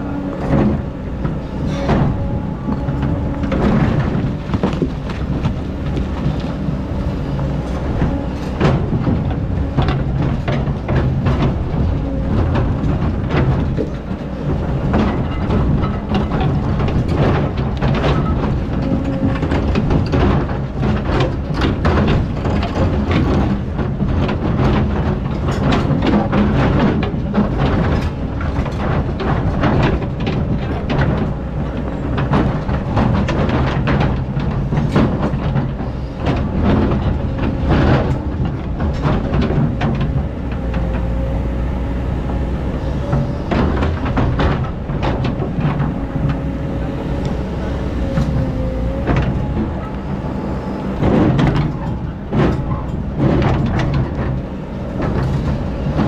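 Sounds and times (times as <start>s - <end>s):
bucket and arm clanking: 0.0s - 56.0s
excavator diesel engine: 0.0s - 56.0s.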